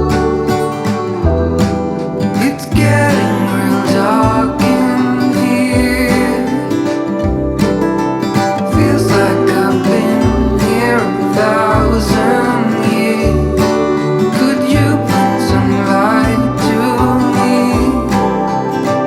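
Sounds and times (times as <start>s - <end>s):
acoustic guitar song with bass: 0.0s - 19.0s.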